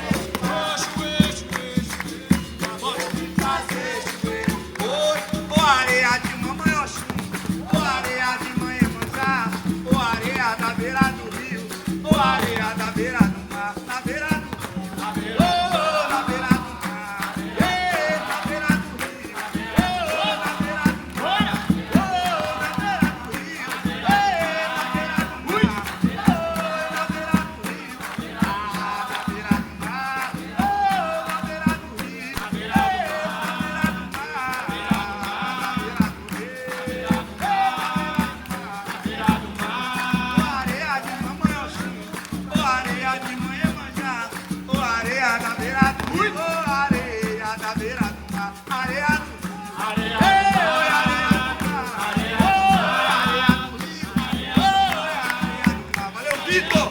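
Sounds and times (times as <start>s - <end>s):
berimbau: 0.0s - 56.9s
shaken rattle: 0.0s - 56.9s
voices singing short phrases: 0.0s - 56.9s.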